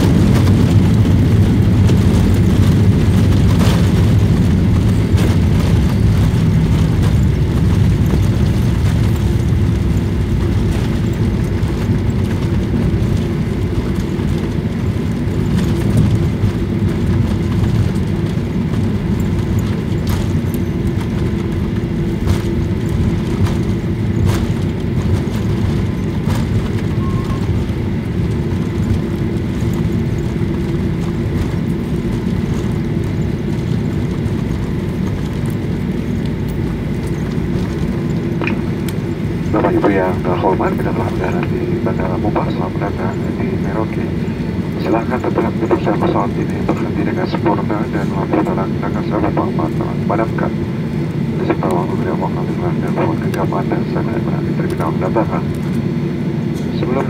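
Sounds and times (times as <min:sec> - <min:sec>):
jet engines and wheels rumbling: 0:00.0 - 0:57.0
steady hum: 0:00.0 - 0:57.0.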